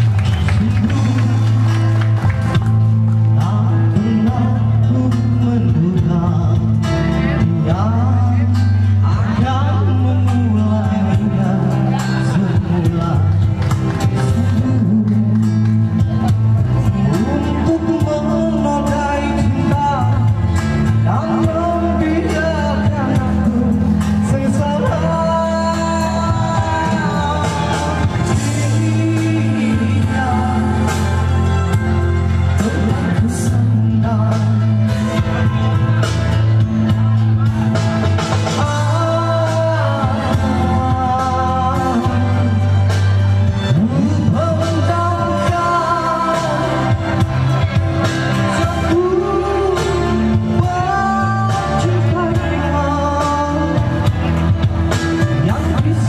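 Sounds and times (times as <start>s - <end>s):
amplified backing music with beat: 0.0s - 56.0s
held bass notes: 0.0s - 56.0s
man singing into microphone: 0.0s - 56.0s.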